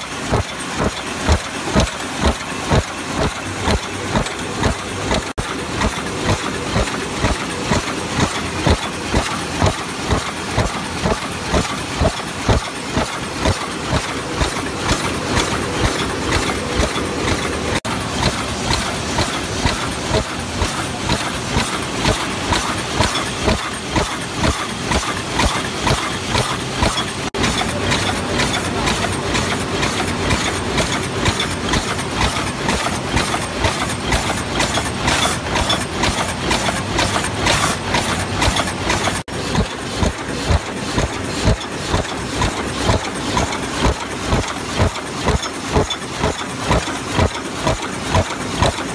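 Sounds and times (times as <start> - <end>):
mechanical clacking: 0.0 - 48.9
steady machine noise: 0.0 - 48.9.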